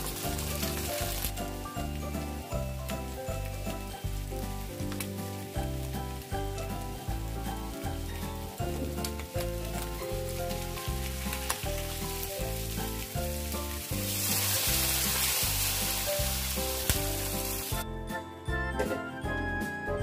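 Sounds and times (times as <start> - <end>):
meat and onions sizzling in a wok: 0.0 - 17.8.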